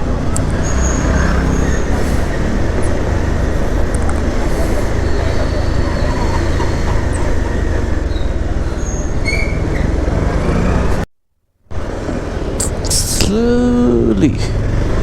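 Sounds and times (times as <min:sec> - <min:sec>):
vehicle road noise rumbling: 0:00.0 - 0:15.0.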